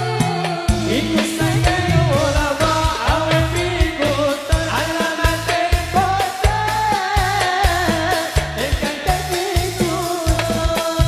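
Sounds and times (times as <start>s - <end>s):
man singing: 0.0s - 11.0s
quick drum beat: 0.1s - 11.0s.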